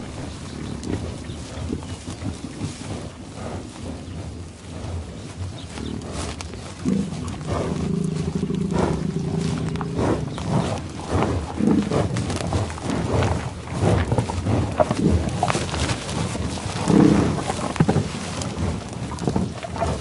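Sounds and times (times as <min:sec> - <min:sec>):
bison grunting: 0:00.0 - 0:04.2, 0:05.0 - 0:20.0
rustling grass: 0:00.0 - 0:20.0
snuffling breaths and chewing: 0:00.0 - 0:20.0.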